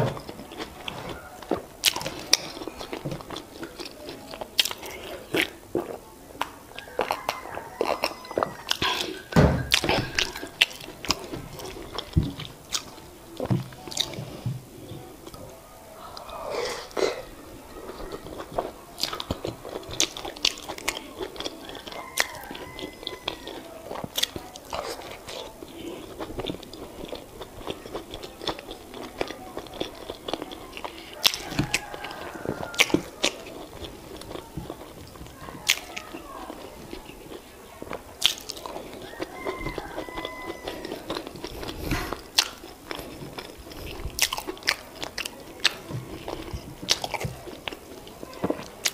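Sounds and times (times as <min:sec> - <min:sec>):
chewing with wet mouth clicks: 0:00.1 - 0:14.4, 0:17.8 - 0:48.9.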